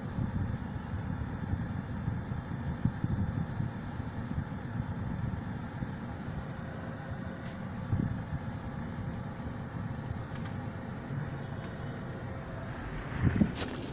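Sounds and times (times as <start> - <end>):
car engine rumbling inside car: 0.0 - 13.9.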